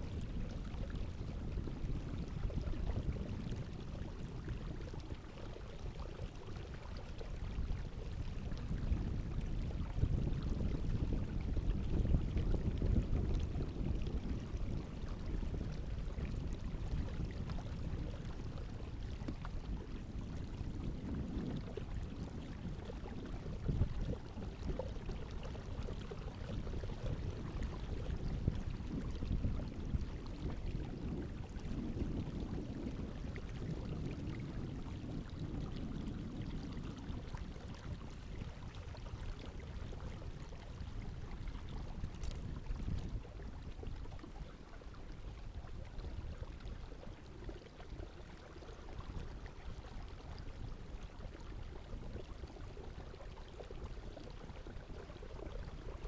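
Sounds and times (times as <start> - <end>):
water sloshing around a kayak: 0.0 - 56.0.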